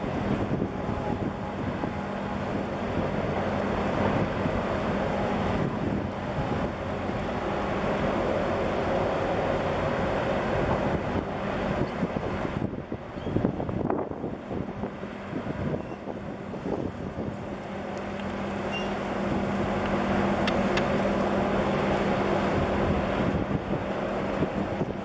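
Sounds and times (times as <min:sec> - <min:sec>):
ship low hum: 0:00.0 - 0:25.0
wind buffeting microphone: 0:00.0 - 0:25.0.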